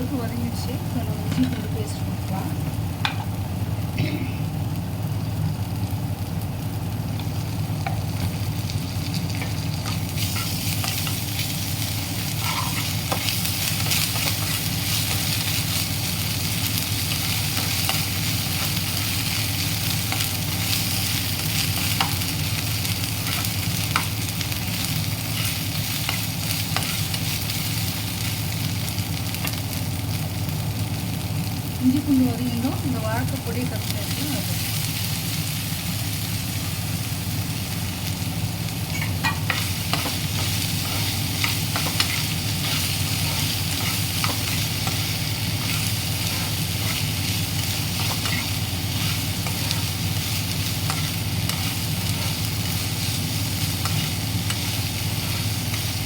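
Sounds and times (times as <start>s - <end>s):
food sizzling in hot oil: 0.0s - 56.0s
low steady hum: 0.0s - 56.0s.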